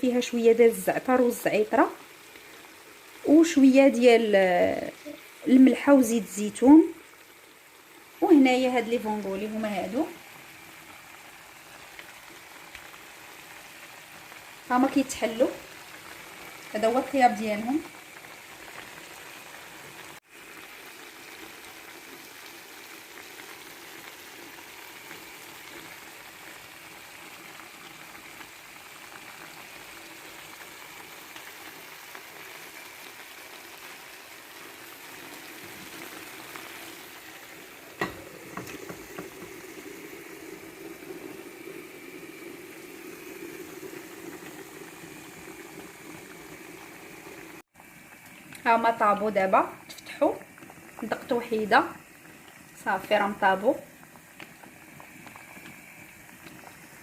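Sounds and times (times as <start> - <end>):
sauce bubbling in a pan: 0.0 - 57.0.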